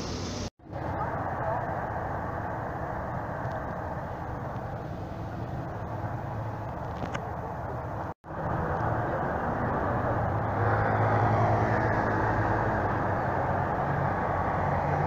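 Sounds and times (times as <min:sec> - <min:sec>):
ferry engines humming: 0:00.0 - 0:15.0.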